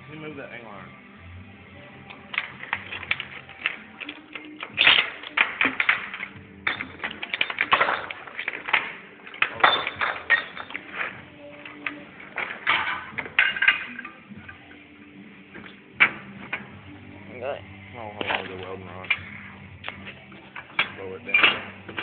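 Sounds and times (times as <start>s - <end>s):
scrap metal and wood clattering: 2.1s - 14.8s, 15.4s - 17.1s, 18.0s - 22.0s.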